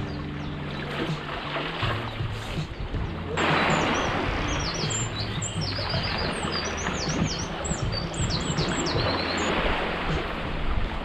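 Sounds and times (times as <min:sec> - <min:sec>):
songbirds chirping and singing: 0:00.0 - 0:10.5
surf rushing: 0:00.0 - 0:11.0.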